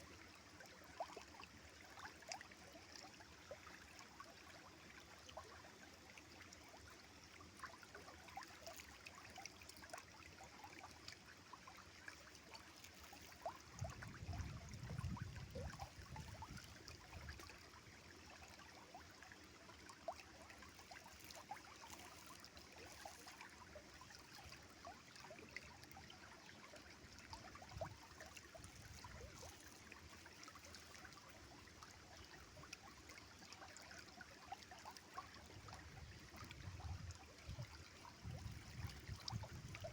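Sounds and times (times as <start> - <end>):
river water flowing and trickling: 0.0 - 39.9.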